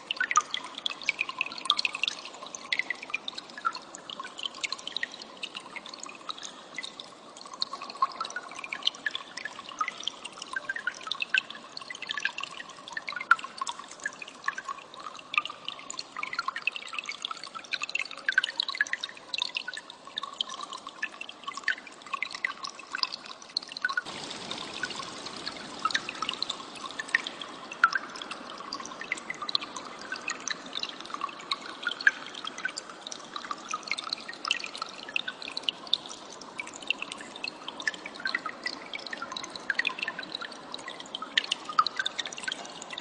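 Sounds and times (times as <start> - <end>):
trickling water: 0.0 - 43.0.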